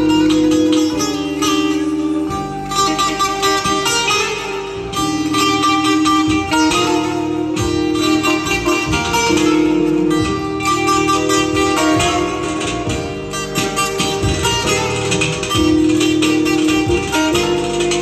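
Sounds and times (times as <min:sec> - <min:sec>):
amplified lute picked fast: 0:00.0 - 0:18.0.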